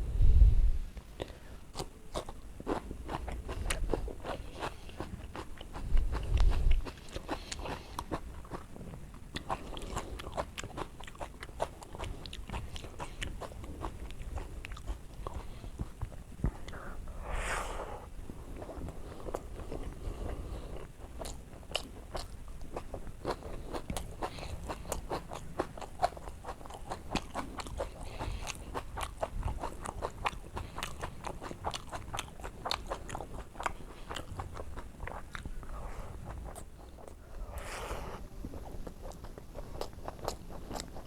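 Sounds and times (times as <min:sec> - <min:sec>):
person chewing food: 0:01.0 - 0:41.0.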